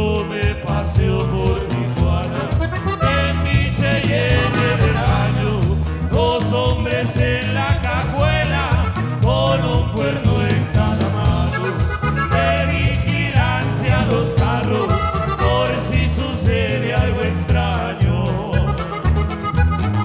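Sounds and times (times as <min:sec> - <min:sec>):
man singing: 0:00.0 - 0:19.3
accordion: 0:00.0 - 0:20.0
bass guitar strumming: 0:00.0 - 0:20.0
drum kit: 0:00.0 - 0:20.0.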